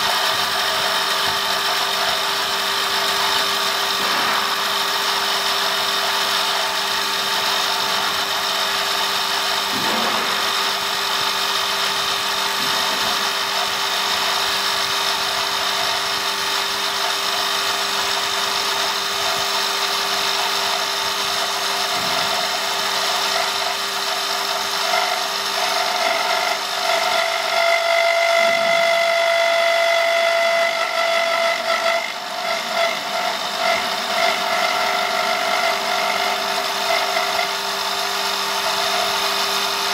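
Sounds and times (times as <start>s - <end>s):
wood lathe whining: 0.0s - 39.9s.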